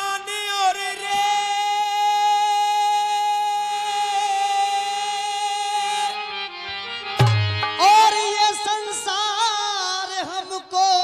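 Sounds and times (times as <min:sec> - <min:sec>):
man singing a long high note: 0:00.0 - 0:06.4, 0:07.8 - 0:11.0.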